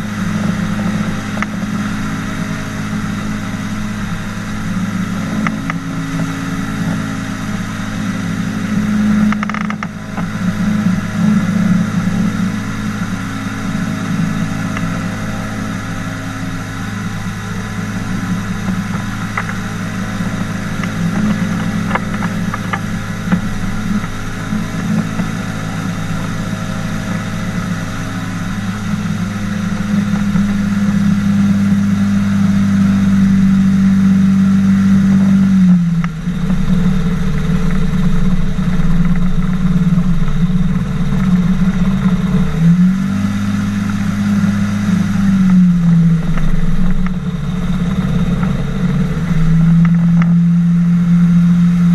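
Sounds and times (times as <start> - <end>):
boat engine and propeller running: 0.0 - 51.9.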